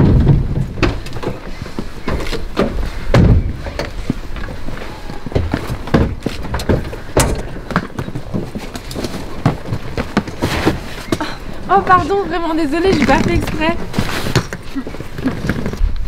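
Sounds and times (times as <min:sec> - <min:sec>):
knocks and thumps of people and bags: 0:00.0 - 0:15.9.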